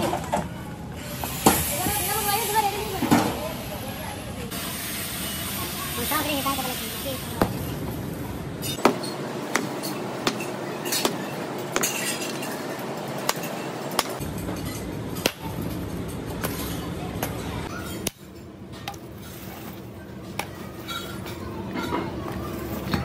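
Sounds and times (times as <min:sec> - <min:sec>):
workshop noise: 0:00.0 - 0:23.0.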